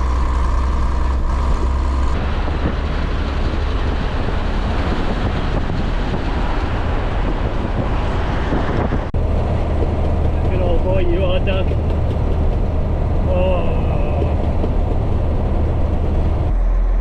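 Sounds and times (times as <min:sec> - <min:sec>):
diesel lorry engine running: 0:00.0 - 0:17.0
road and wind noise: 0:00.0 - 0:17.0.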